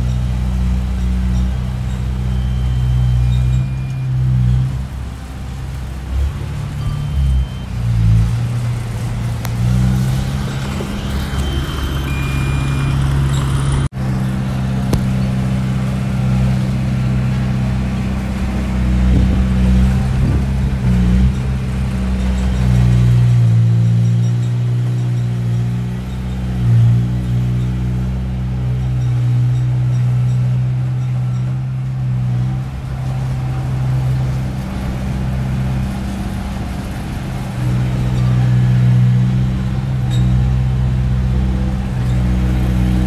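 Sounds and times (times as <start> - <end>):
bulldozer diesel engine under load: 0.0 - 43.0.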